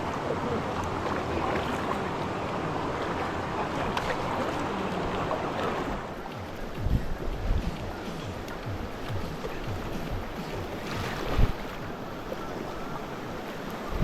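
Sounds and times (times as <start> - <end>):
river water rushing: 0.0 - 14.0
small splashes: 0.0 - 14.0.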